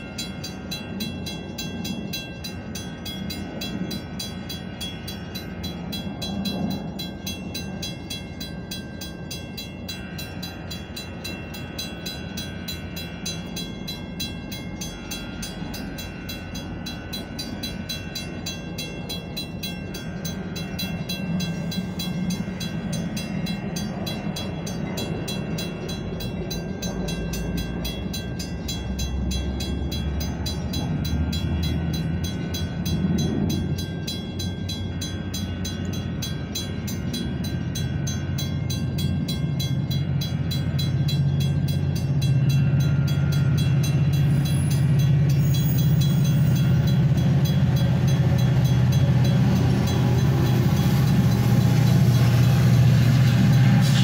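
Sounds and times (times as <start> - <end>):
crossing bell ringing: 0.0 - 54.0
diesel locomotive humming: 0.0 - 54.0
train coaches passing: 0.0 - 54.0.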